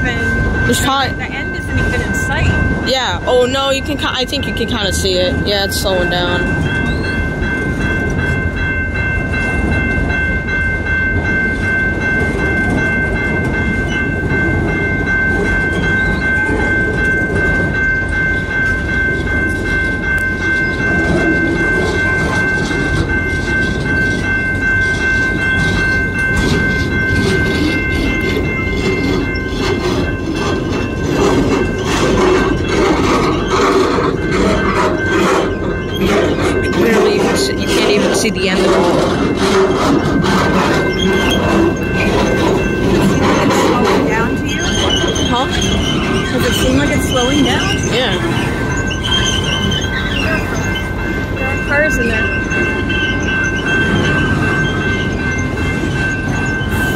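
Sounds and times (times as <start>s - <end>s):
steady high tone: 0.0s - 56.9s
train wheels rumbling on rails: 0.0s - 56.9s.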